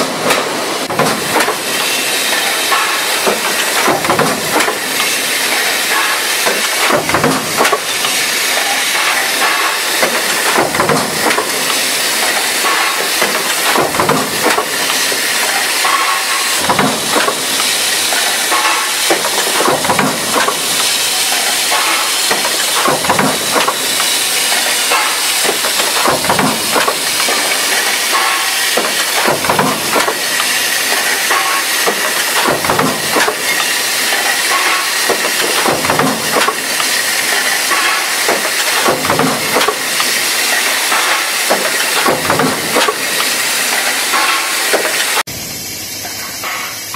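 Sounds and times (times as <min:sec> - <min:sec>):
press hiss and clatter: 0:00.0 - 0:46.9.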